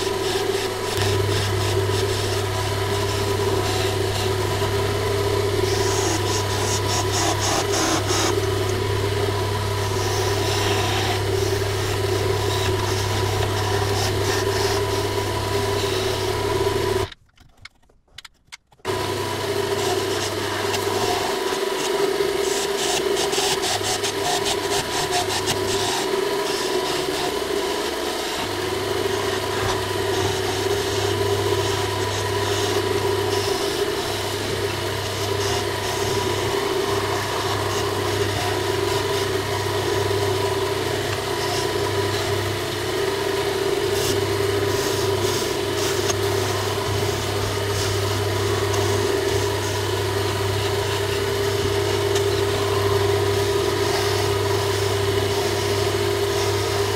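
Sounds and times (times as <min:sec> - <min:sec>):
lathe motor humming: 0:00.0 - 0:17.2, 0:18.9 - 0:56.9
chisel scraping spinning wood: 0:00.0 - 0:56.9.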